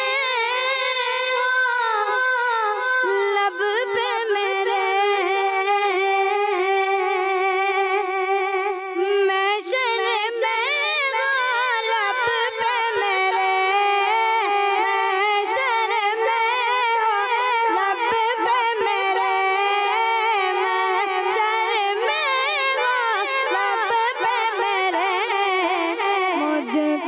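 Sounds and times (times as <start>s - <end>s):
child singing unaccompanied: 0.0s - 27.0s.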